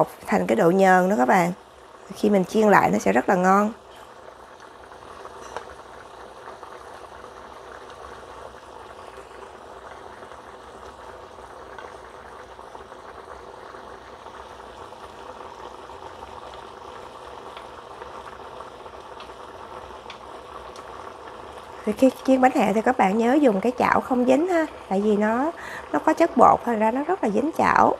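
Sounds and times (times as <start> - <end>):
water bubbling in a frying pan: 0.0 - 27.9.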